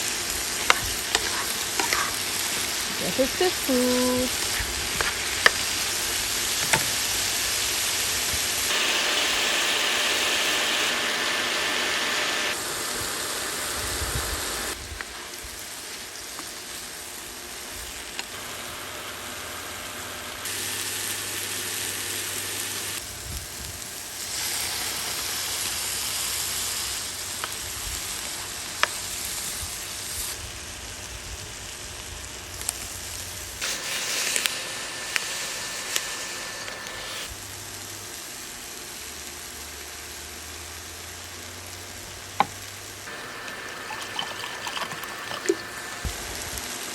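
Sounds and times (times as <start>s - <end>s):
vegetables sizzling in a pan: 0.0s - 46.9s.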